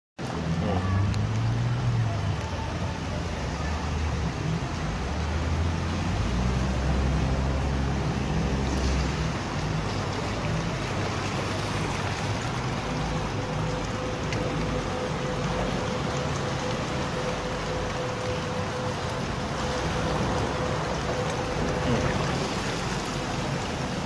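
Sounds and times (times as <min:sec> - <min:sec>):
floodwater rushing: 0:00.2 - 0:24.0
rain falling: 0:00.2 - 0:24.0.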